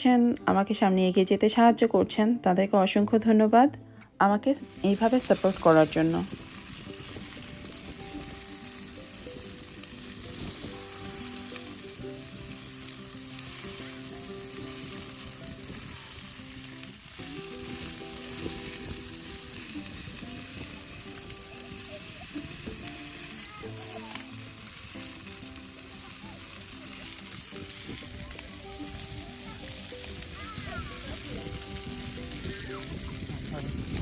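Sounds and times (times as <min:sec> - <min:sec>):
soft background music: 0:00.0 - 0:34.0
food sizzling in a pan: 0:04.6 - 0:34.0.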